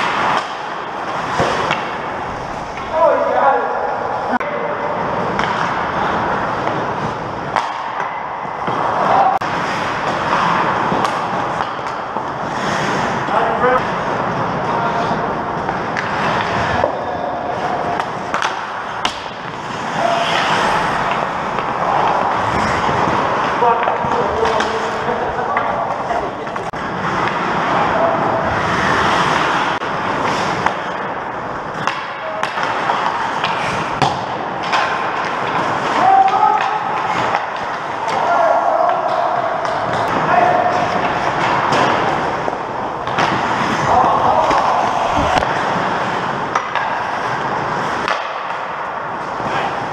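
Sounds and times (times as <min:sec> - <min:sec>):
hockey sticks and puck clacking: 0:00.0 - 0:49.9
skates scraping ice: 0:00.0 - 0:49.9.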